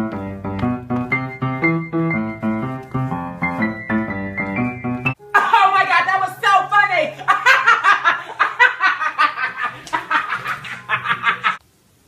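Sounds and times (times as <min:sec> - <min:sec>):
upright piano chords: 0:00.0 - 0:11.6.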